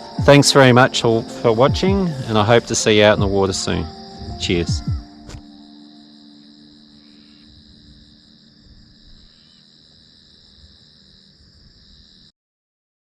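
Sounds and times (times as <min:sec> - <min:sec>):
insects chirping: 0:00.0 - 0:12.3.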